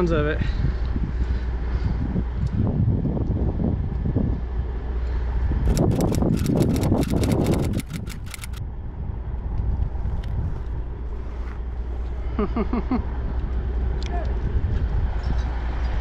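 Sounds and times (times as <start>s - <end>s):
engine running at low speed: 0.2s - 16.0s.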